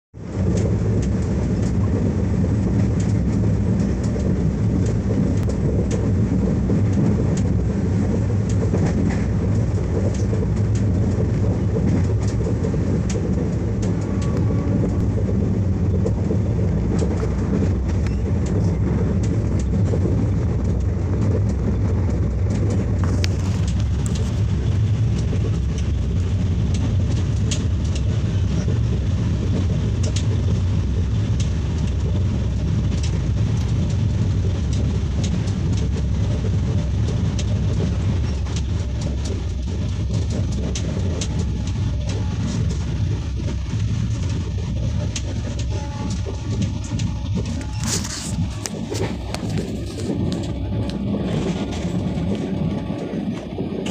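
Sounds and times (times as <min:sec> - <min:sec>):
train wheels rumbling on rails: 0:00.1 - 0:53.9.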